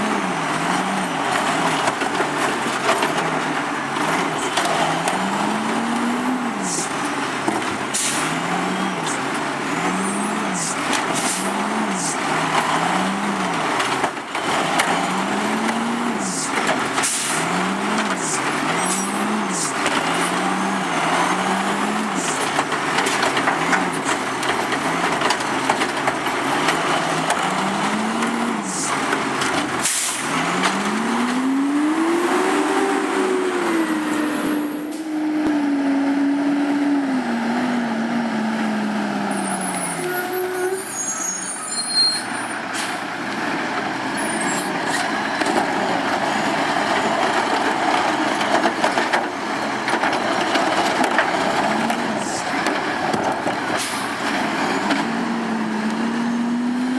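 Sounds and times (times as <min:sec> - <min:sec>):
garbage truck diesel engine revving: 0:00.0 - 0:41.6, 0:42.6 - 0:56.9.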